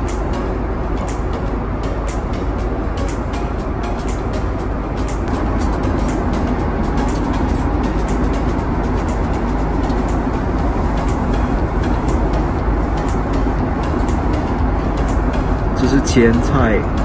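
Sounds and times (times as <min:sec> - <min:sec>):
airliner cabin engine roar: 0:00.0 - 0:17.0.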